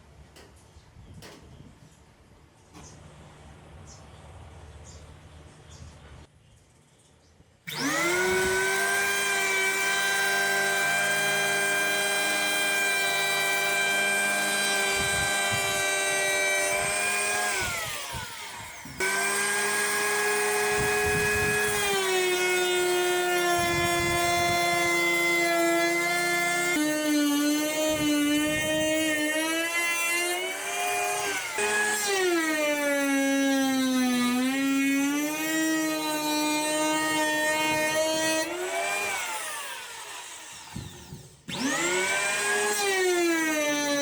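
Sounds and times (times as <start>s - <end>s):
electric hand plane motor whine: 7.7s - 44.0s.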